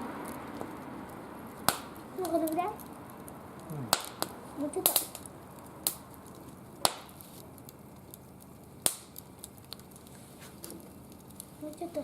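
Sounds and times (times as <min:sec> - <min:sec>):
wood fire crackles: 0:00.0 - 0:12.0.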